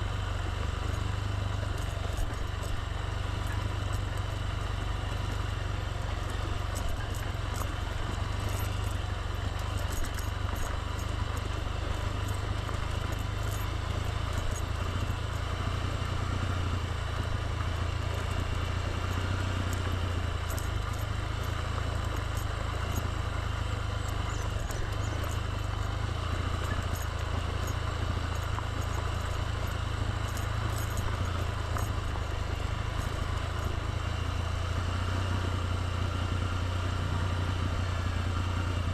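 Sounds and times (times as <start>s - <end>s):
motorbike engine rumbling: 0.0s - 38.9s.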